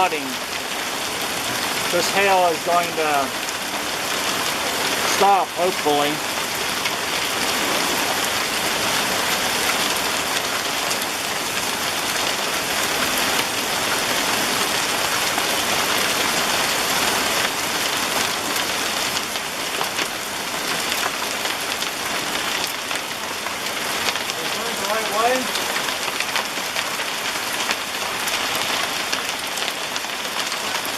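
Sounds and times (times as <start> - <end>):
hail pelting down: 0.0 - 30.9.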